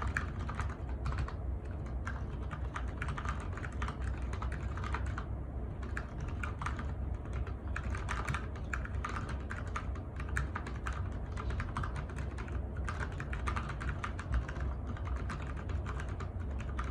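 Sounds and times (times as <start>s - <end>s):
soft muted keyboard typing: 0.0s - 16.9s.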